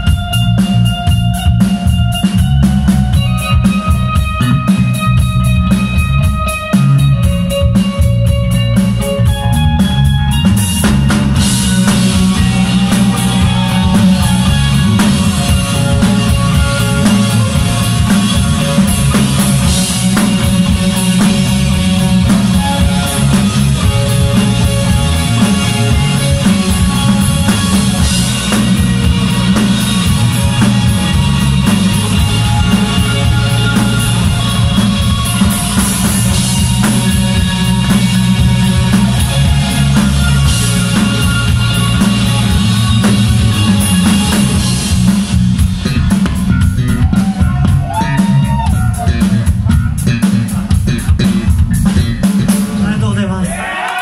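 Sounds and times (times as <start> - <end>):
distorted electric guitar: 0.0 - 53.5
drum kit steady beat: 0.0 - 54.0
electric bass: 0.0 - 54.0.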